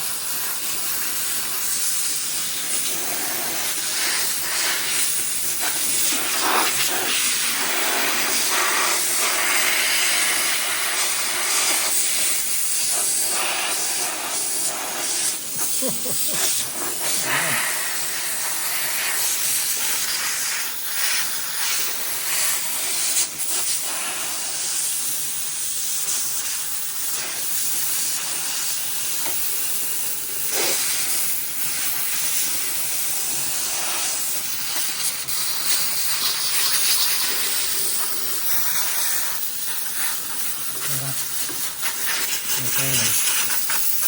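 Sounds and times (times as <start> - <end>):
steam cleaner hissing: 0.0 - 44.0.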